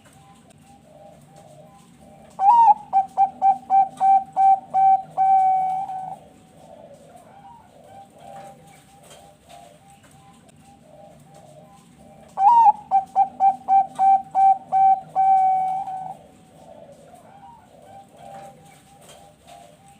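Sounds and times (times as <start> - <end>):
faint doves cooing: 0.0 - 19.9
dove singing loudly: 0.1 - 19.9.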